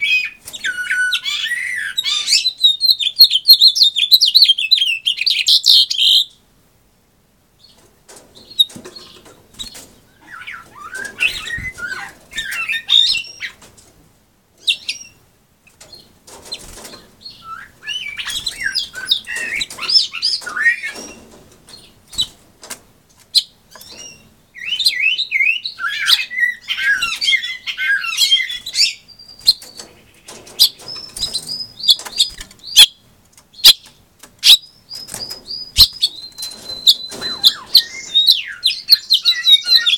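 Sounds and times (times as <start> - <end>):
finch singing warbled song: 0.0 - 6.4, 8.4 - 13.6, 14.6 - 15.2, 15.9 - 22.4, 23.3 - 39.9.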